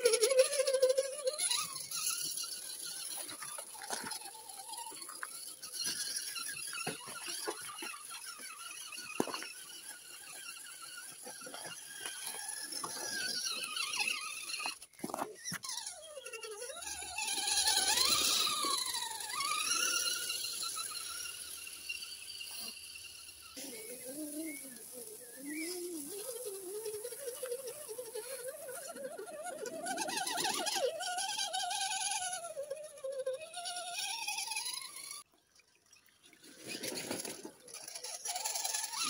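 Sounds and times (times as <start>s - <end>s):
toy car electric motor whine: 0.0s - 35.3s, 36.6s - 39.0s.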